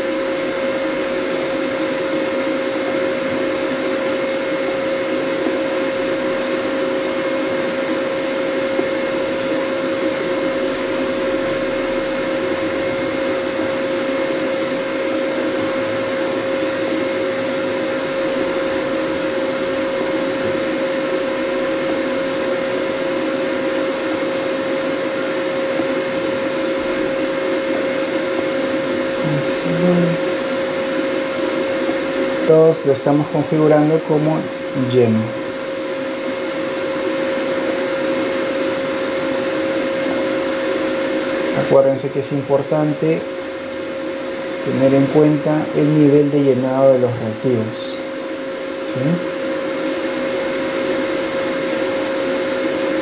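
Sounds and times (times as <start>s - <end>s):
machine fan whirring: 0.0s - 53.0s
mid-pitched hum: 0.0s - 53.0s.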